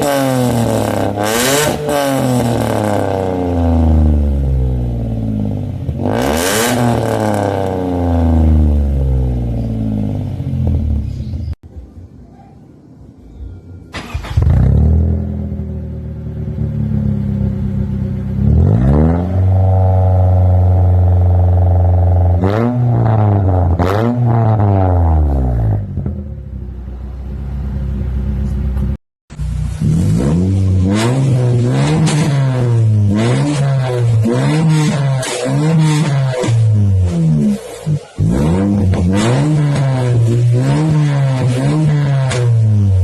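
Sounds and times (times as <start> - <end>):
car engine idling and revving: 0.0 - 11.6, 14.0 - 43.0.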